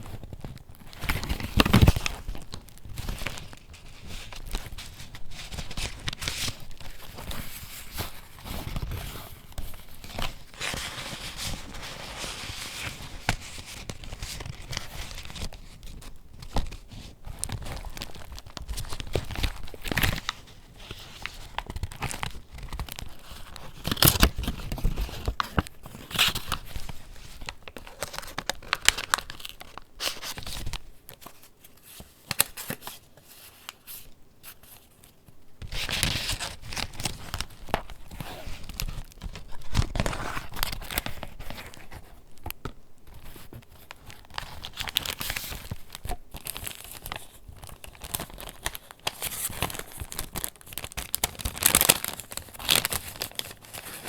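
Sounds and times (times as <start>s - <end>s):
paper pages rustling and crinkling: 0.0s - 54.0s.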